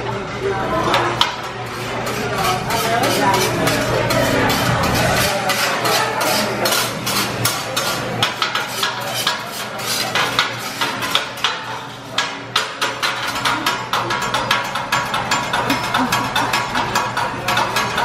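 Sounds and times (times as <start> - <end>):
metal spatula clacking on griddle: 0.8 - 18.0.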